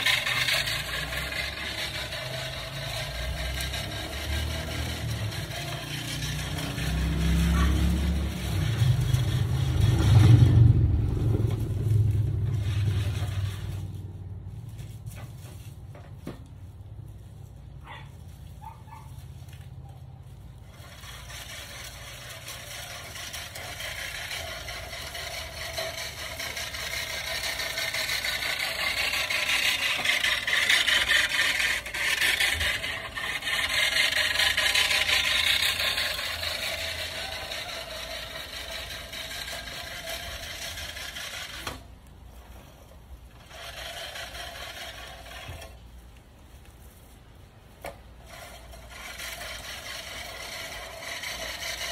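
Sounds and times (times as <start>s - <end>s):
reel mower whirring rattle: 0.0s - 51.9s.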